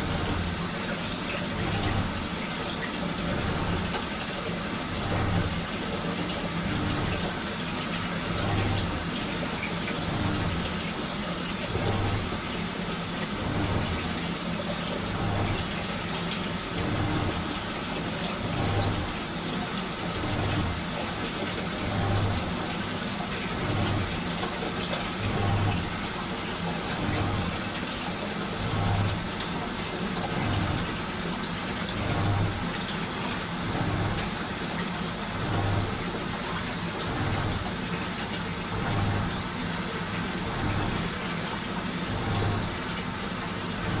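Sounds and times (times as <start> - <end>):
washing machine water swishing: 0.0 - 44.0.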